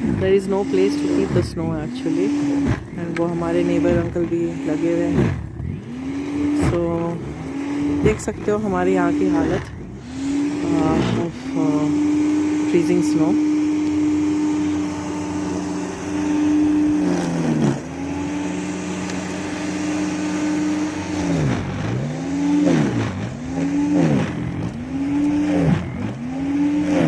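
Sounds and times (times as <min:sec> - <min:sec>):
snow blower engine running: 0:00.0 - 0:27.0.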